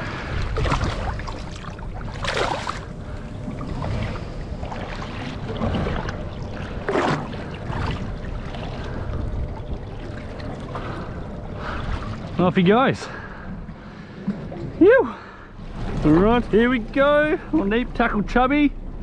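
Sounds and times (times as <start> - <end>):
seawater splashing against a boat: 0.0 - 18.8.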